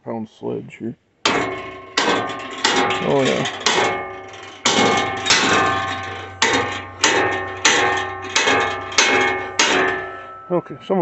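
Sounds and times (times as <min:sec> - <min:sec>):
sledgehammer striking steel bolt: 0:01.3 - 0:10.7.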